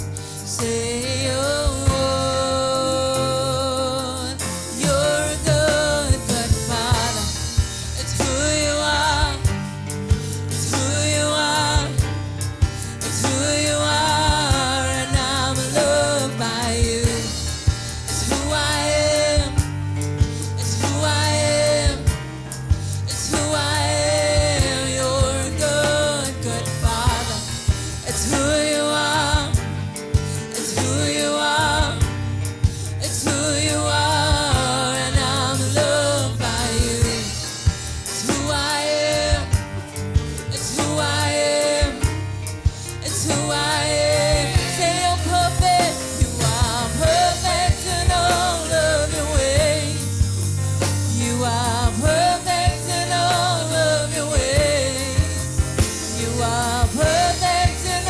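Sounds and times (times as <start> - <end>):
band playing worship music: 0.0 - 58.0
drum kit beat: 0.0 - 58.0
person singing: 0.0 - 58.0.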